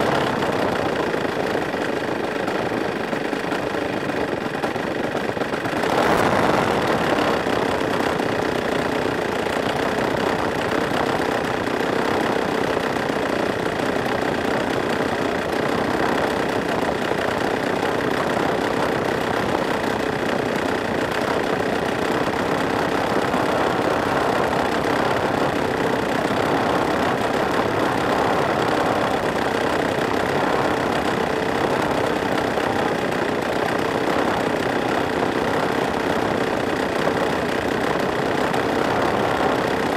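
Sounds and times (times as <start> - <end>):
two-stroke engine running steadily: 0.0 - 39.9.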